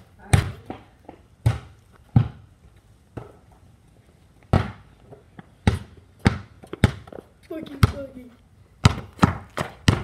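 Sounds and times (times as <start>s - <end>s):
basketball bouncing on pavement: 0.0s - 10.0s.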